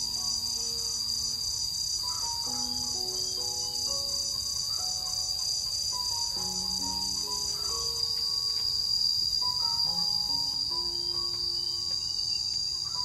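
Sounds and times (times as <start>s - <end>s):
high-pitched insect chorus: 0.0s - 13.0s
soft slow background music: 0.0s - 13.0s.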